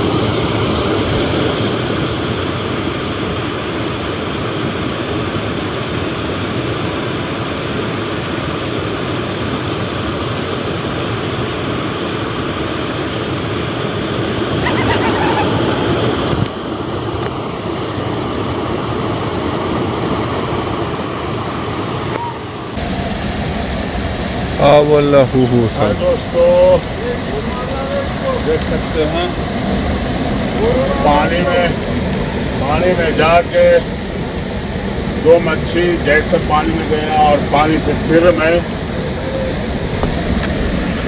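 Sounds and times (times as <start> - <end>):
water rushing through sluice gates: 0.0 - 41.0.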